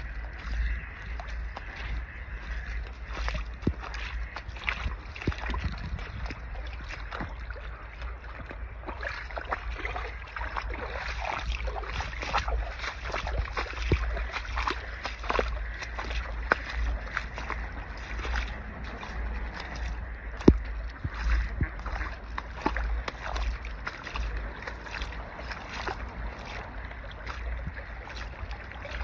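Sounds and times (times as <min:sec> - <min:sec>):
steady low rumble: 0:00.0 - 0:29.0
water trickling over stones: 0:00.0 - 0:29.0.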